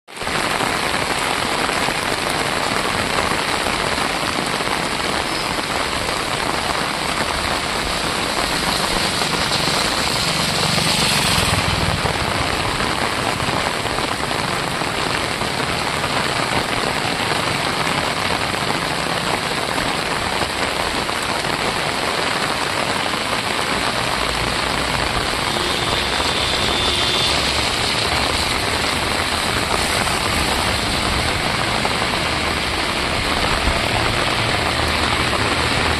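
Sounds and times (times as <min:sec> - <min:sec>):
heavy rain on streets and roofs: 0:00.0 - 0:35.9.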